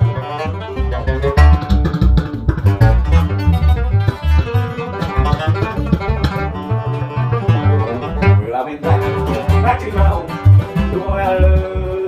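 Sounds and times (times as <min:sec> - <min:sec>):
guitar picking quick melody: 0:00.0 - 0:12.0
low bass notes: 0:00.0 - 0:12.0.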